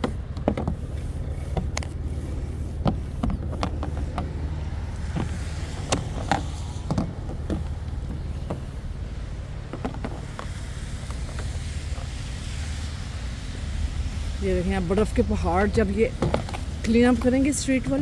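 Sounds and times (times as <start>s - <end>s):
snow brush scraping a car: 0.0s - 18.0s
steady low rumble: 0.0s - 18.0s.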